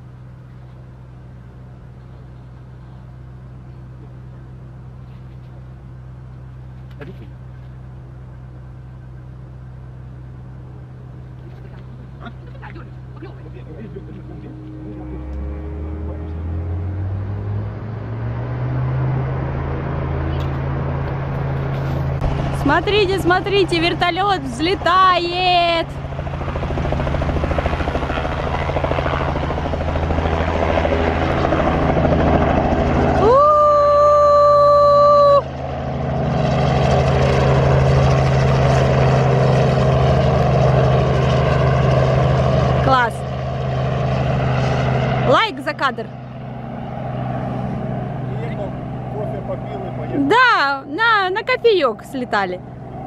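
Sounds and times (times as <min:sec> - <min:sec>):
engine running drone: 0:00.0 - 0:53.0
helicopter rotor beat: 0:00.0 - 0:53.0.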